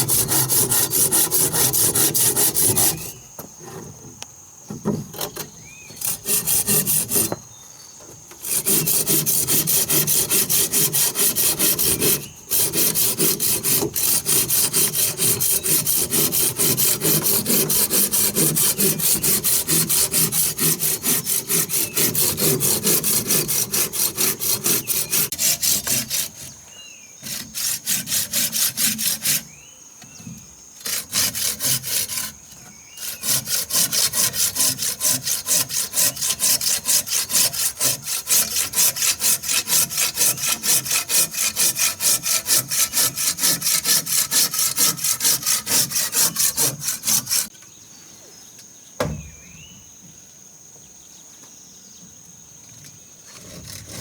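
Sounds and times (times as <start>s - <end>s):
hand saw cutting wood: 0.0s - 7.4s, 8.1s - 29.6s, 30.2s - 47.5s, 53.3s - 54.0s.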